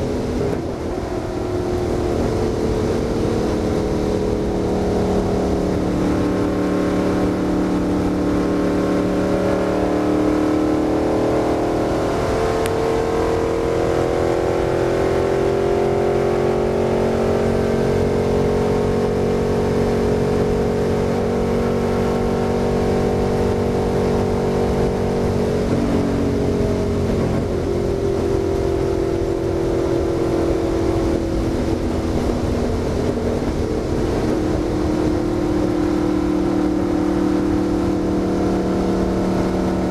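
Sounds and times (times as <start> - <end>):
race car engine at speed: 0.0 - 39.9
road and wind noise: 0.0 - 39.9.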